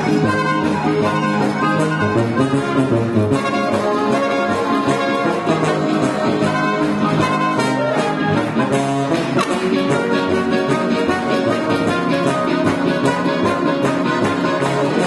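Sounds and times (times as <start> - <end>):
accordion: 0.0 - 15.0
bass horn: 0.0 - 15.0
clarinet: 0.0 - 15.0
guitar: 0.0 - 15.0
trumpet: 0.0 - 15.0.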